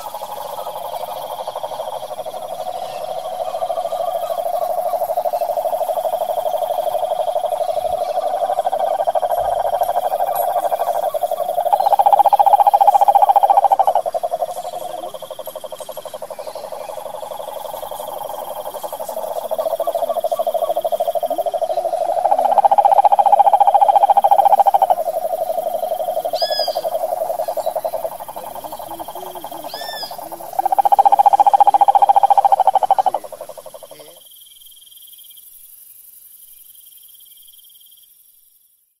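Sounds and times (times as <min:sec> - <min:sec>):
toad trilling: 0:00.0 - 0:34.2.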